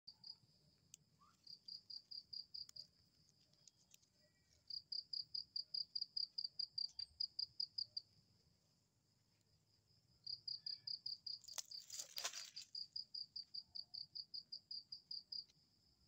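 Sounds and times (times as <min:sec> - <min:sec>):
cricket chirping: 0:00.1 - 0:16.0.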